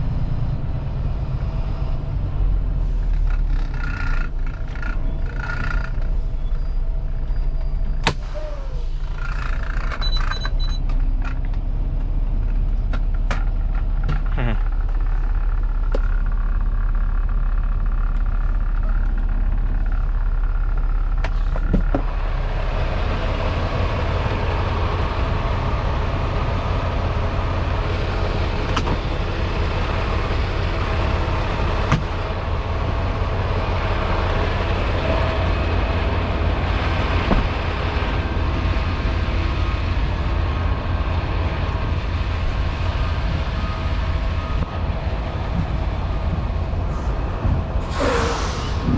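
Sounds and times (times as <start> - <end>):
truck engine and road noise: 0.0 - 48.9.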